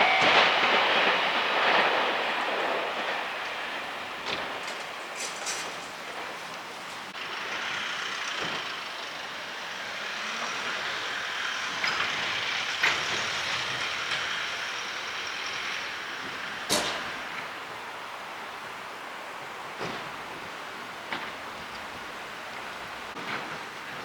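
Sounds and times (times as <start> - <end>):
train rushing along tracks: 0.0 - 24.0.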